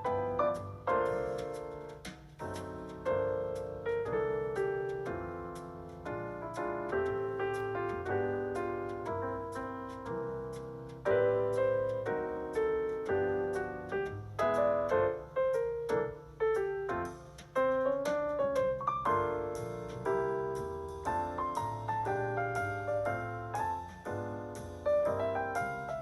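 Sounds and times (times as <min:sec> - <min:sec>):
solo piano melody: 0:00.0 - 0:26.0.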